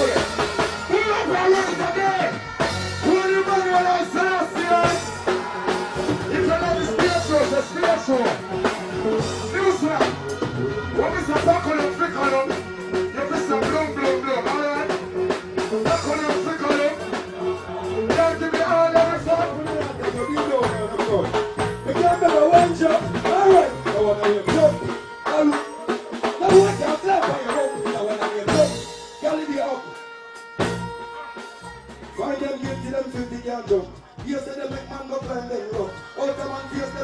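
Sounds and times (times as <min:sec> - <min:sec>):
loud reggae music: 0:00.0 - 0:37.0.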